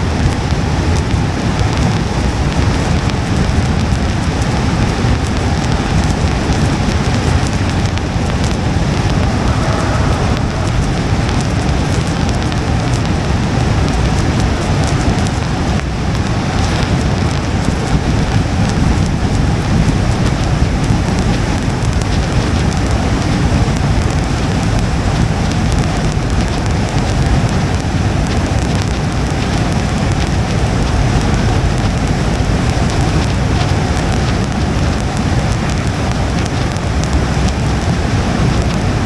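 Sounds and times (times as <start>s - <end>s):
rain on car windshield: 0.0s - 8.4s, 13.0s - 39.0s
faint raindrop ticks: 0.0s - 39.0s
low road rumble: 0.0s - 39.0s.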